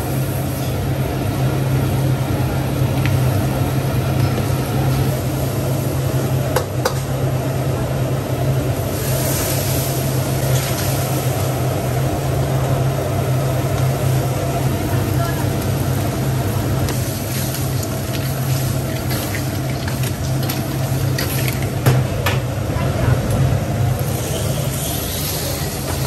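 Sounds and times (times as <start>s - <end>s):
food sizzling in wok: 0.0s - 26.0s
gas burners roaring: 0.0s - 26.0s
kitchen extraction fan: 0.0s - 26.0s.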